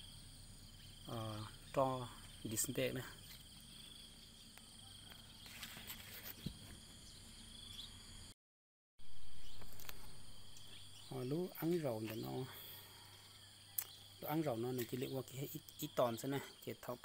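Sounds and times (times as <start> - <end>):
insects chirring: 0.0 - 8.3, 9.0 - 17.0.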